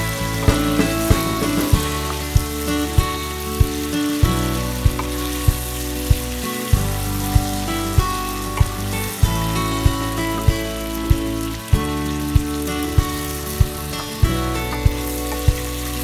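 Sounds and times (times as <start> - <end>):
background music with steady beat: 0.0 - 16.0
meat sizzling in a wok: 0.0 - 16.0.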